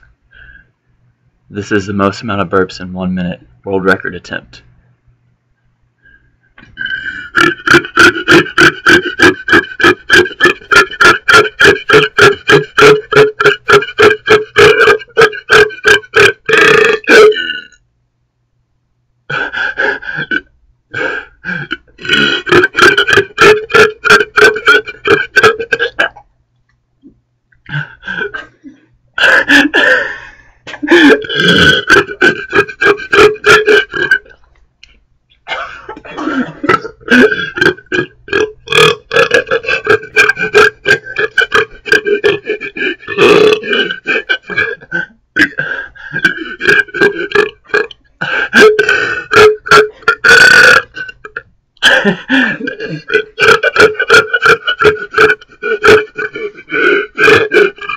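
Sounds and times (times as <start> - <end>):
person burping: 6.6 - 17.8, 19.3 - 26.3, 27.6 - 34.4, 35.5 - 57.9.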